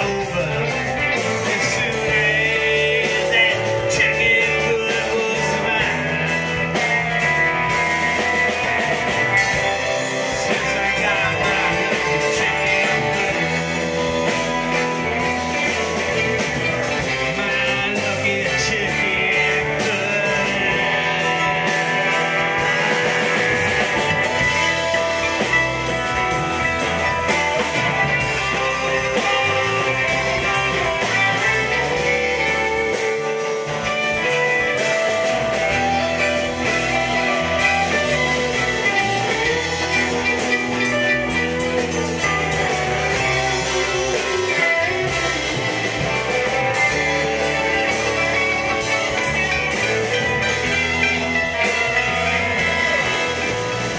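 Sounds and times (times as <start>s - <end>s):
bass guitar: 0.0s - 53.9s
drum kit: 0.0s - 53.9s
electric guitar: 0.0s - 53.9s
mandolin: 0.0s - 53.9s.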